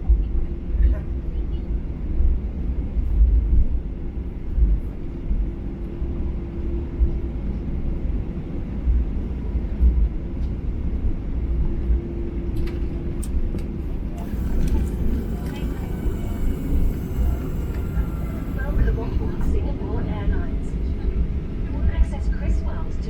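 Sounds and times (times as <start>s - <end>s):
jet engines idling in cabin: 0.0s - 23.0s.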